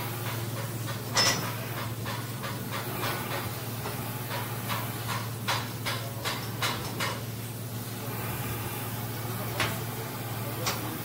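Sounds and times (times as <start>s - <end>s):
machinery and ventilation hum: 0.0s - 11.0s.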